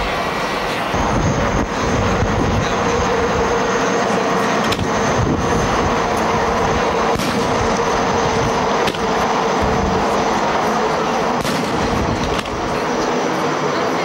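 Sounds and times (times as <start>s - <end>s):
helicopter engine and rotor: 0.0s - 14.0s.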